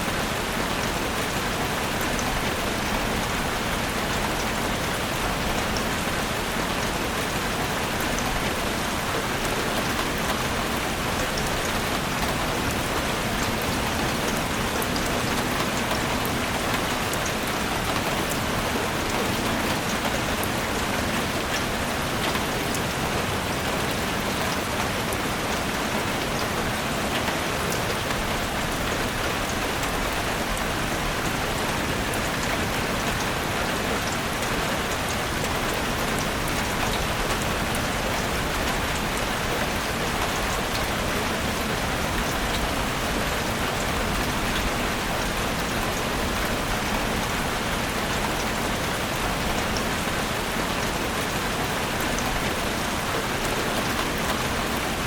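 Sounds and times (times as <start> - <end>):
steady rain in a forest: 0.0 - 55.0.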